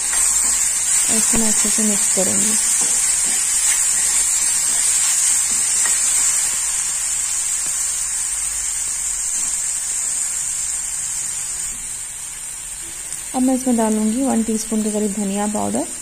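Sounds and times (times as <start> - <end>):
onion frying in oil: 0.0 - 16.0.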